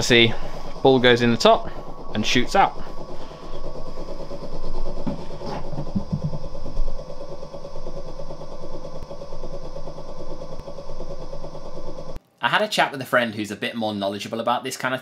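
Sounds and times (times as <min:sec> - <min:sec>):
small motor whining: 0:00.0 - 0:12.2.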